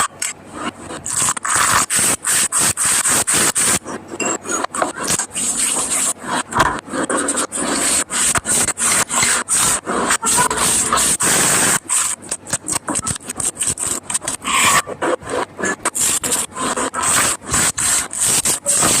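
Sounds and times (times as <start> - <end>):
kitchen utensil scraping: 3.1 - 19.0.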